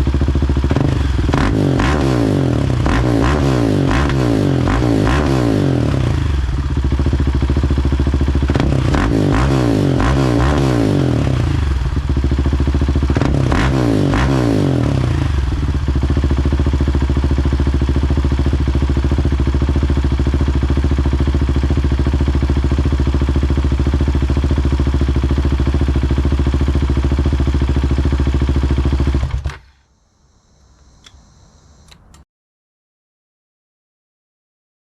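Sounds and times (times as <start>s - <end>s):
motorcycle engine revving and idling: 0.0s - 29.6s.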